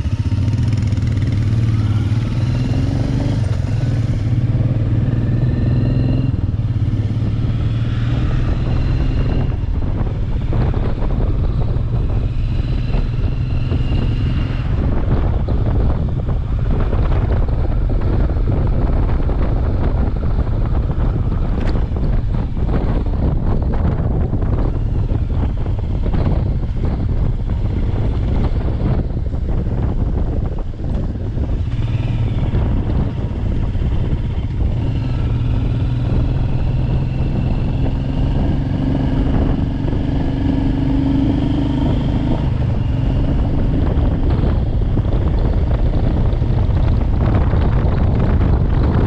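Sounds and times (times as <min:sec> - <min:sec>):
motorcycle engine hum: 0:00.0 - 0:49.0
wind buffeting microphone: 0:00.0 - 0:49.0.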